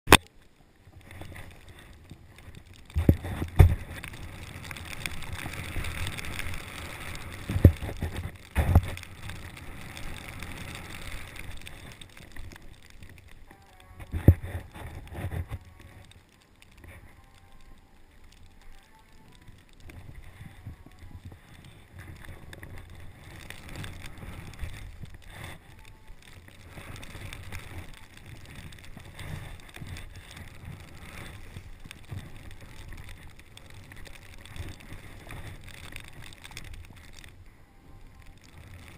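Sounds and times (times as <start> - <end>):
snowboard scraping through snow: 0.9 - 38.9.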